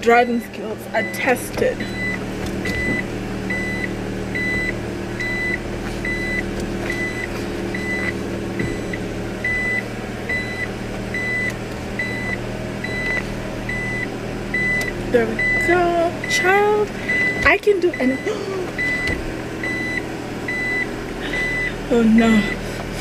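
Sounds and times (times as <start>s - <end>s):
reverse warning beeper: 0.0s - 22.6s
car engine idling: 0.0s - 23.0s.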